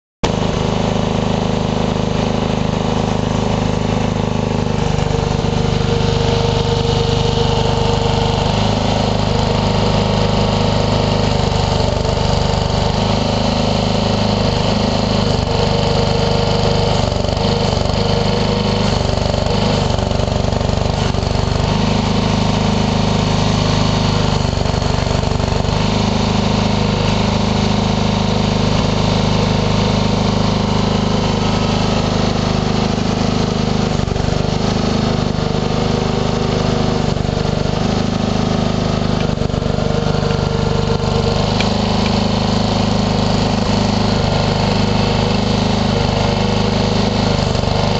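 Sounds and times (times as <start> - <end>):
tractor engine running: 0.2 - 47.9.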